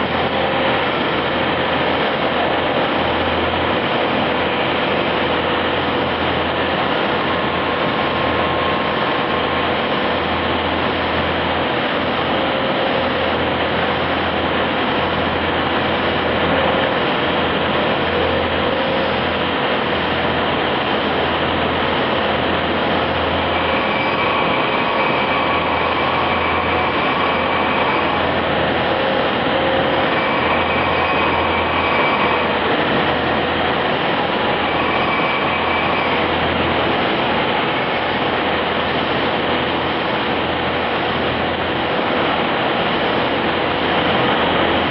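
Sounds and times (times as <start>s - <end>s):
machine running: 0.0s - 44.9s
machine whine: 0.0s - 44.9s.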